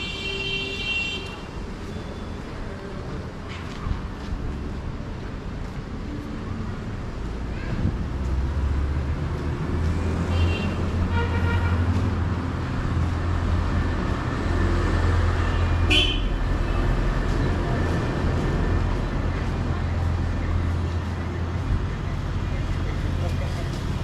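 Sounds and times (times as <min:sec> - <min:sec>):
vehicle engine rumble: 0:01.4 - 0:24.0.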